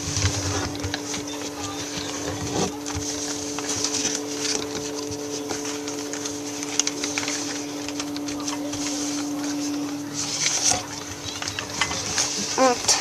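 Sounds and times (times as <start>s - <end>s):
paper folding and rustling: 0.0s - 13.0s
steady background hum: 0.0s - 13.0s.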